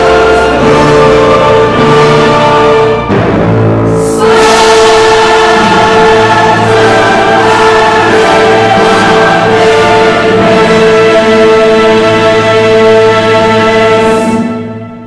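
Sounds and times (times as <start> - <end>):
choir-like singing voices: 0.0 - 15.0
sustained soundtrack chords: 0.0 - 15.0.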